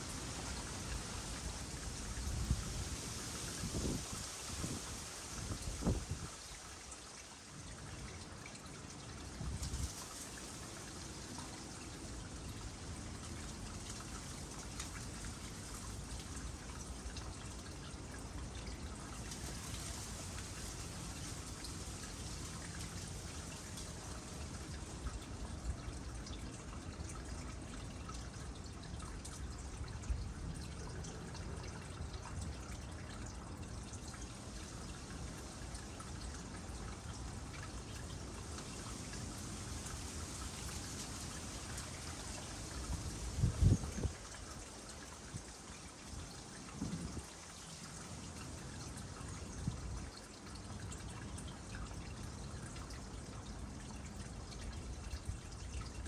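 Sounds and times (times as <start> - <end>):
water drips: 0.0 - 56.0
water trickling into pond: 0.0 - 56.0.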